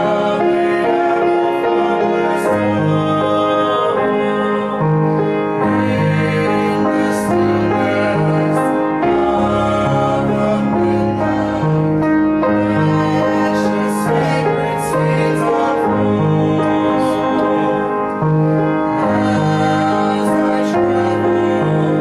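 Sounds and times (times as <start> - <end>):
instrumental accompaniment: 0.0 - 22.0
person singing slow song: 0.0 - 22.0.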